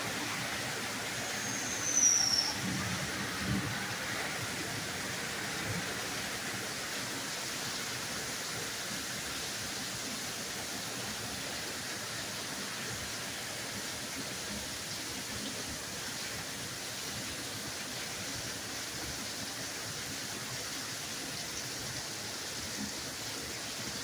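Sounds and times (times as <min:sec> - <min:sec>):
torrential rain: 0:00.0 - 0:24.0.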